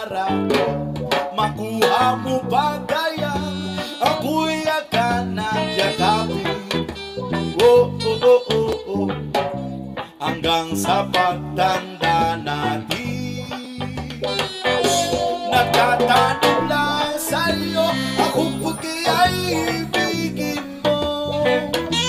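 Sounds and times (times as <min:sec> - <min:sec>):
plucked guitar melody: 0:00.0 - 0:22.0
stepping bass line: 0:00.0 - 0:22.0.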